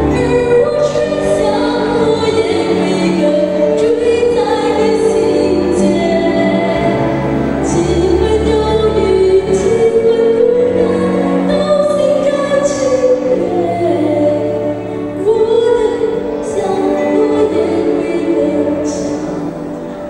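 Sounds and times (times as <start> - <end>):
girl singing into microphone: 0.0 - 7.0, 7.6 - 19.6
instrumental accompaniment: 0.0 - 20.0.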